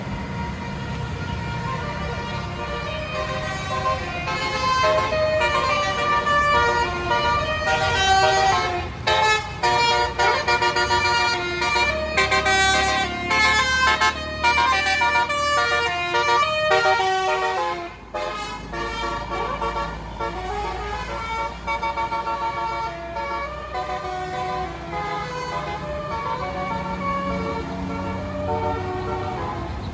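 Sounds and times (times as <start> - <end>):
low engine rumble: 0.0 - 29.9
musical air horn playing a tune: 0.4 - 29.9.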